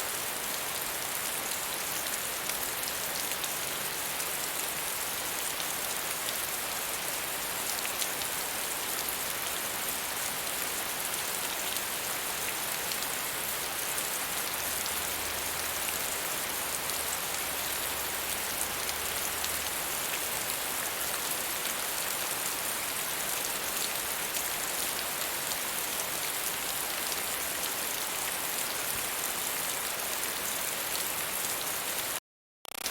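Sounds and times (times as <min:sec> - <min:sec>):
rain pattering: 0:00.1 - 0:32.2.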